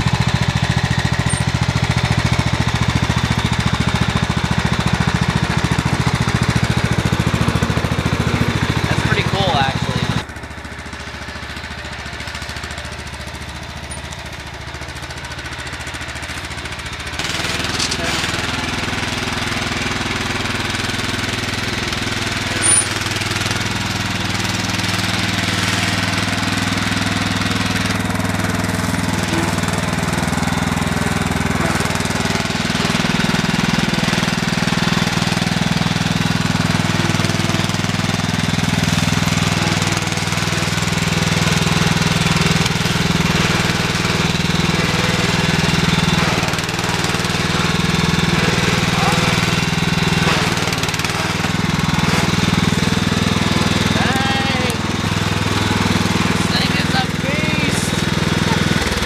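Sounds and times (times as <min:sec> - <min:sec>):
riding lawn mower engine: 0:00.0 - 0:59.0.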